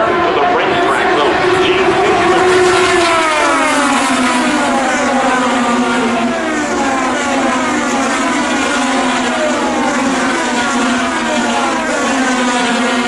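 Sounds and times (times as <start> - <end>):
race car engines passing by: 0.0 - 13.0.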